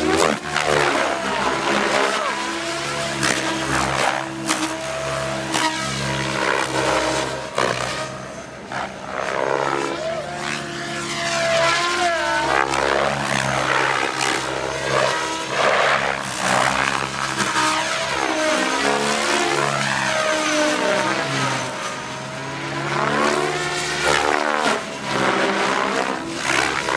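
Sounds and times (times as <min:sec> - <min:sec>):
rc helicopter rotor buzz: 0:00.0 - 0:26.9.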